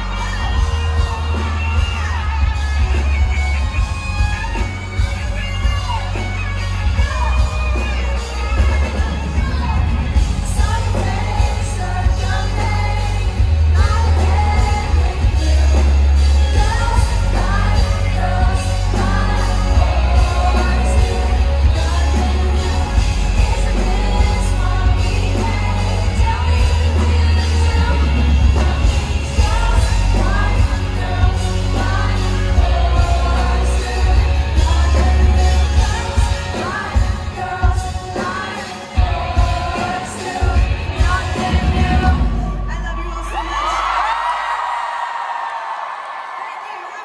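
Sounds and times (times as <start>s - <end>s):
woman singing: 0.0s - 43.8s
live pop band with heavy bass: 0.0s - 46.4s.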